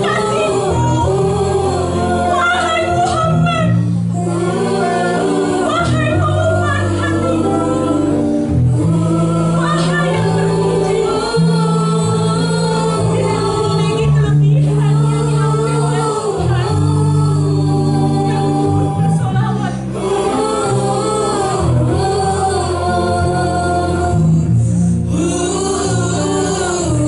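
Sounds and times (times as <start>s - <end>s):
choir singing a slow song: 0.0s - 27.0s
held low accompaniment notes: 0.0s - 27.0s.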